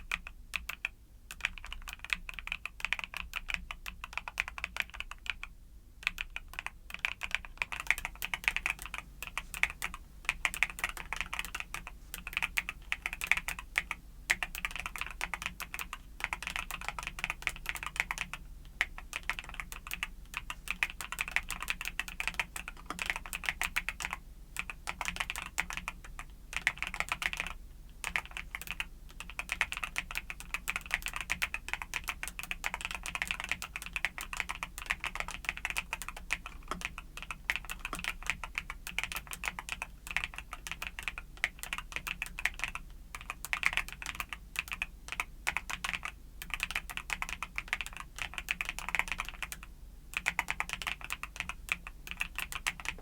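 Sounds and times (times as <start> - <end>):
typing on mechanical keyboard: 0.0 - 53.0.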